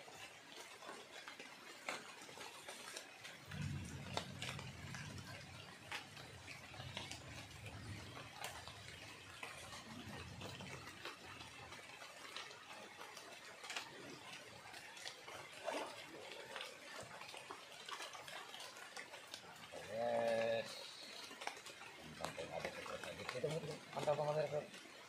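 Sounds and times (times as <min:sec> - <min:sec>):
light rain on leaves and water: 0:00.0 - 0:25.0.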